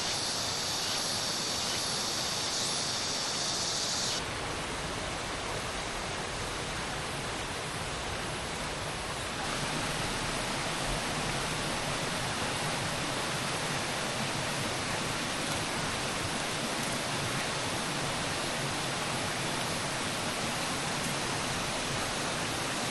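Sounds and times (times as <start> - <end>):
water rushing over rocks: 0.0 - 22.9.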